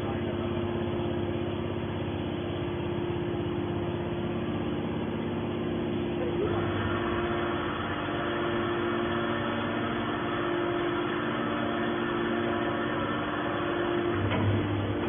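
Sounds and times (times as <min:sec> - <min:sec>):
hydraulic baler motor humming: 0:00.0 - 0:15.0.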